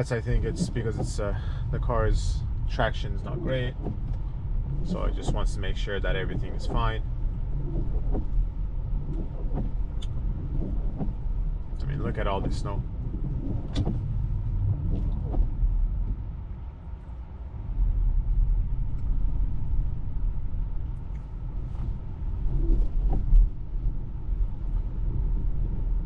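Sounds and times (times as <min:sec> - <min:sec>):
tyres and road noise: 0:00.0 - 0:26.0.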